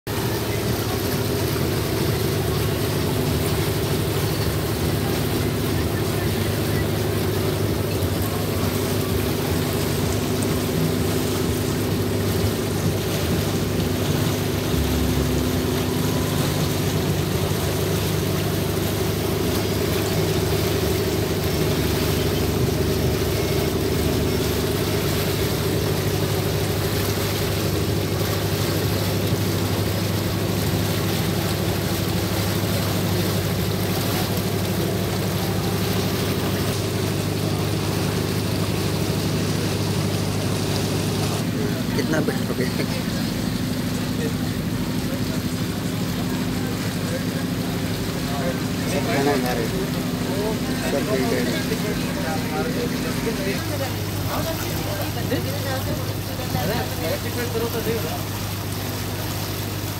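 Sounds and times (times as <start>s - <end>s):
boat engine humming: 0.0s - 59.9s
water noise: 0.0s - 59.9s.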